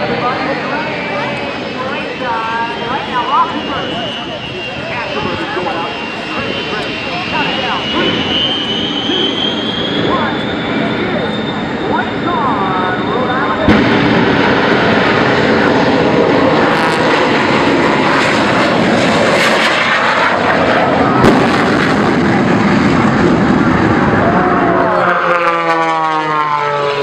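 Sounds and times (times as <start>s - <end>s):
aerobatic plane engine passing: 0.0s - 27.0s
loud steady jet roar: 0.0s - 27.0s.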